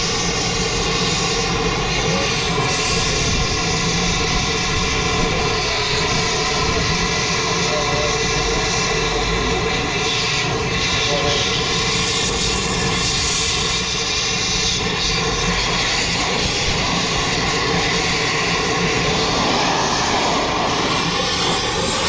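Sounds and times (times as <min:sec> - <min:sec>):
motor humming loudly: 0:00.0 - 0:22.0.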